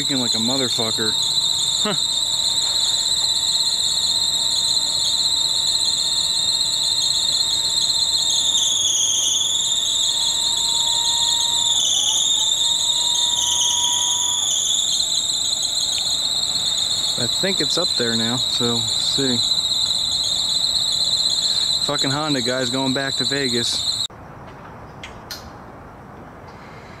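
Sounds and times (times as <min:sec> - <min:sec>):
car squealing: 0:00.0 - 0:24.1.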